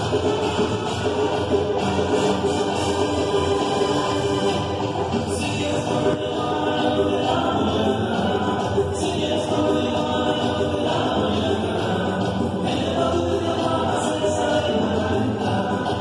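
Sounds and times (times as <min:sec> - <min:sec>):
folk music with singing: 0:00.0 - 0:16.0.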